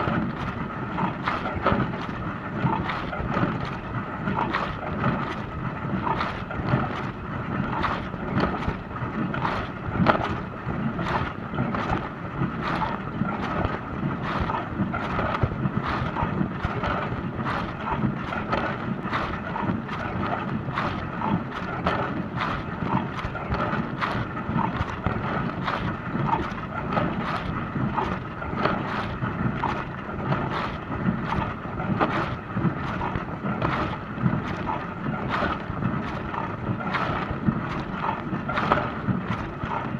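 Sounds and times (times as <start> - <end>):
water splashes patter: 0.0 - 39.9.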